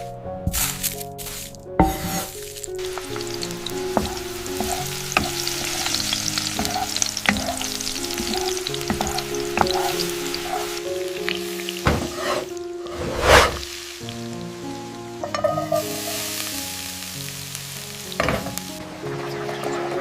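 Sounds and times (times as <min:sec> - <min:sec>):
food sizzling in oil: 0:00.5 - 0:20.0.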